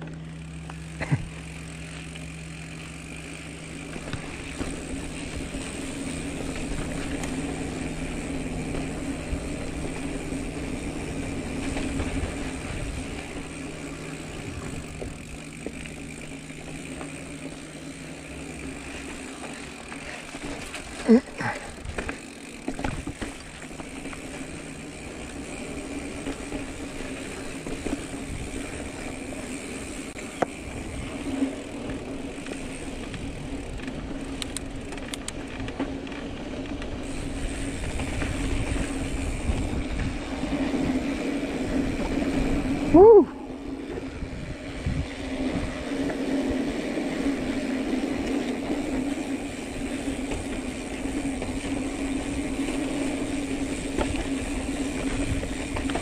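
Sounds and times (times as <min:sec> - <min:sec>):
bike tyres rolling on dirt: 0:00.0 - 0:56.0.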